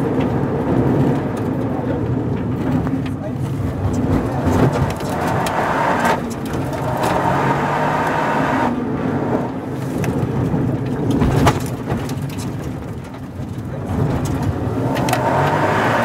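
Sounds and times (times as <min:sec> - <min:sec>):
car engine pulling hard: 0:00.0 - 0:16.0
tyre and road noise: 0:00.0 - 0:16.0.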